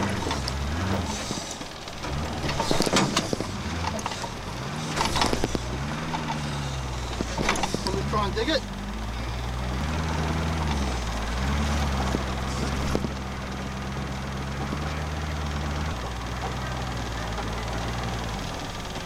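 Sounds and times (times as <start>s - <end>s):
truck engine running at low revs: 0.0s - 19.0s.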